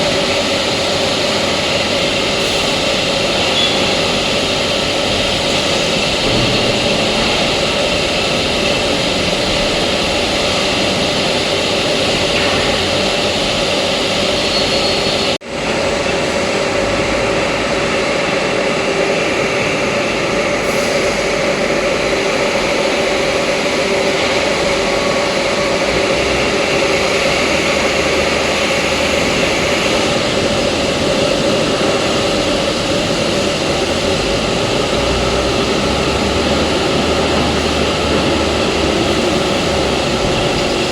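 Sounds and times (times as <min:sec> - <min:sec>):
hydraulic press drone: 0:00.0 - 0:40.9
hydraulic pump hum: 0:00.0 - 0:40.9.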